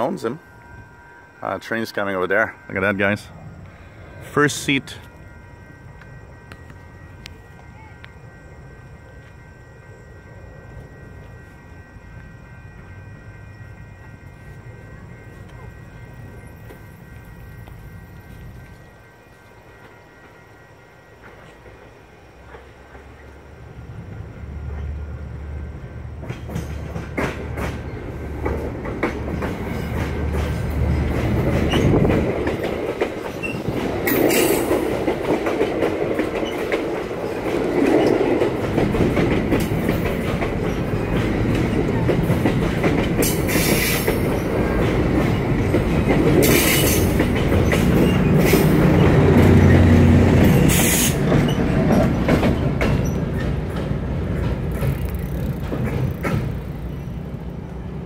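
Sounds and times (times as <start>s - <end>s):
train wheels rumbling and clattering: 1.6s - 58.0s.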